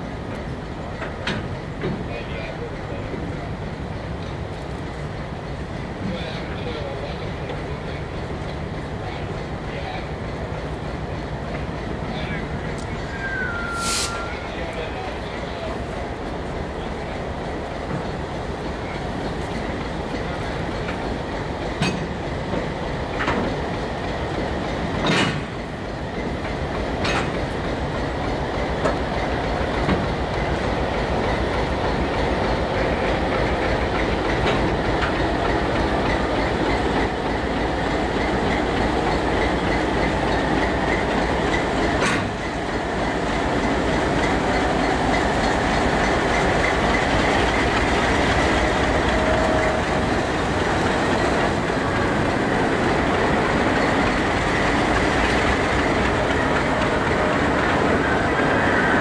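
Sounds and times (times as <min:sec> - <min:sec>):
diesel locomotives: 0:00.0 - 0:59.0
freight train rolling past: 0:00.0 - 0:59.0.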